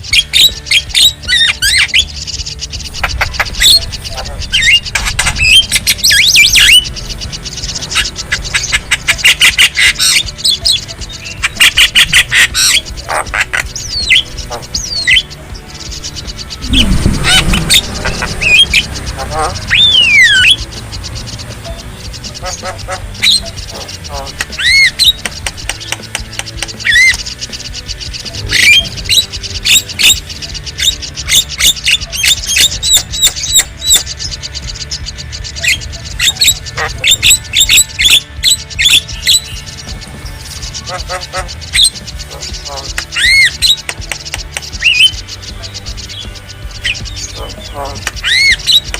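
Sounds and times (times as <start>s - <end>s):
bird whistled notes: 0.0s - 48.9s.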